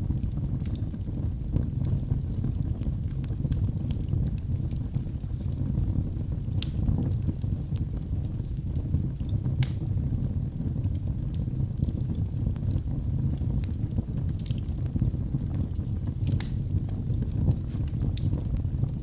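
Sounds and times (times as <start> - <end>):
wood fire crackling in fireplace: 0.0 - 19.0.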